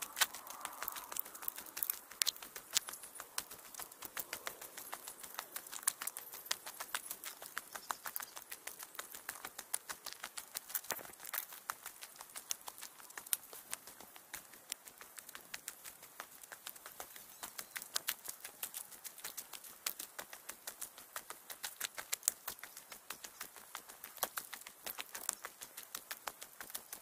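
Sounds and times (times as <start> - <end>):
footsteps on stony trail: 0.0 - 27.0.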